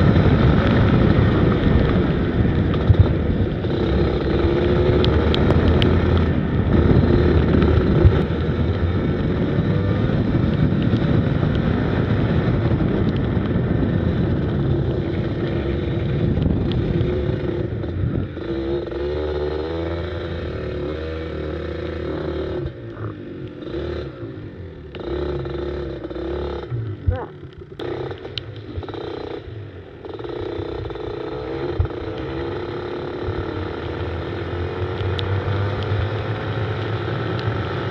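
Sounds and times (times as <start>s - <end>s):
go-kart engine running hard: 0.0s - 37.9s.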